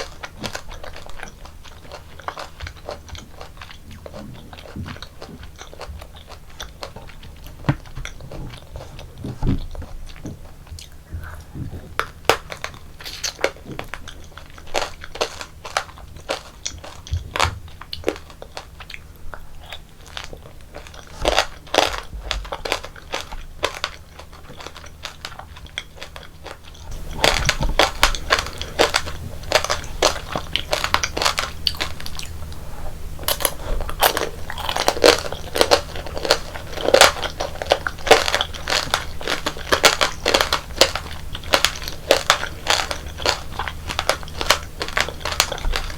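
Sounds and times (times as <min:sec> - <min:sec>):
crunching and chewing candy: 0:00.0 - 0:45.9.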